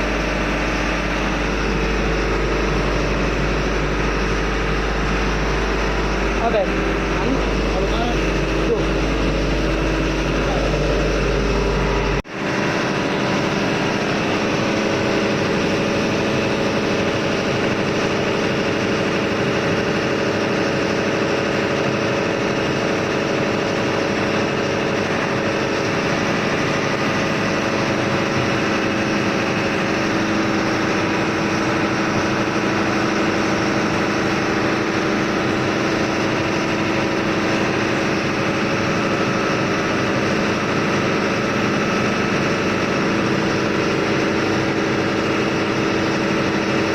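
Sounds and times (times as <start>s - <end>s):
ship's engine running: 0.0s - 46.9s.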